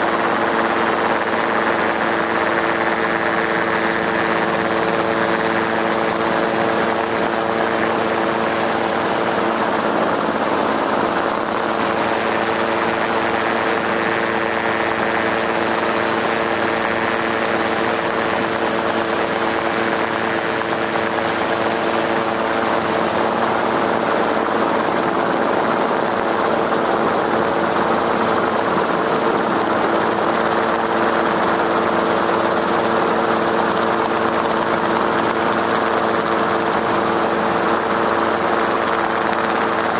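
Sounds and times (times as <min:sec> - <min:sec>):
drone rotor hum: 0:00.0 - 0:39.9.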